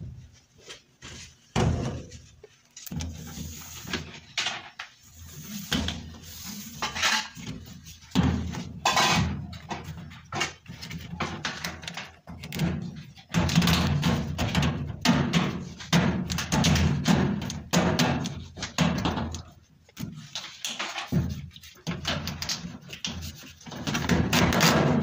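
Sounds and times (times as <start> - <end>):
plastic hose knocking and scraping: 0.0 - 25.0.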